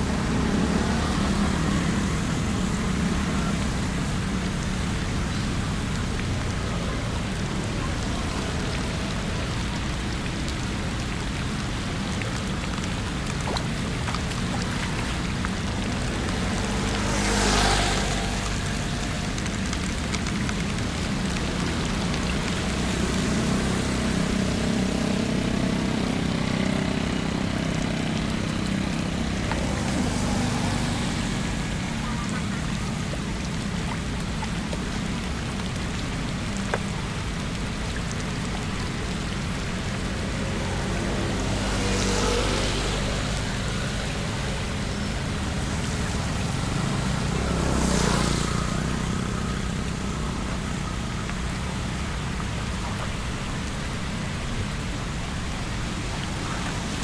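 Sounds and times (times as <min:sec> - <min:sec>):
heavy rain: 0:00.0 - 0:57.0
vehicle engine rumble: 0:00.0 - 0:57.0
vehicle swishing through water: 0:00.0 - 0:57.0.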